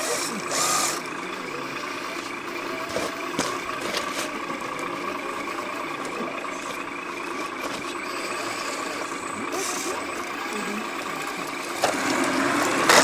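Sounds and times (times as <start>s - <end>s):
model vehicle motor whine: 0.0s - 13.0s.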